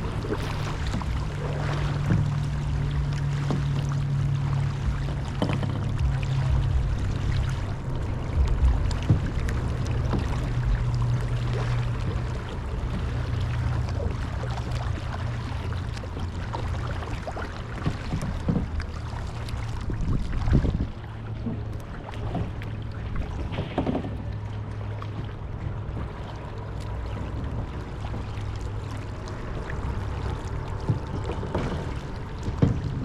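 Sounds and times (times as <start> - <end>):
paddle strokes in water: 0.0 - 33.0
steady low hum: 0.0 - 33.0
water splashing against hull: 0.0 - 33.0.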